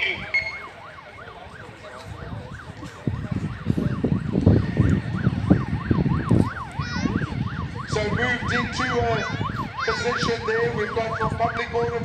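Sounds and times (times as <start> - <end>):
police siren yelping: 0.0 - 12.0.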